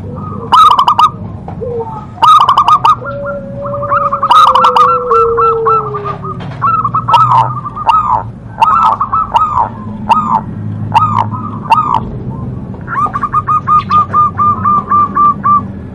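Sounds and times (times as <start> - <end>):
dove cooing: 0.0 - 15.9.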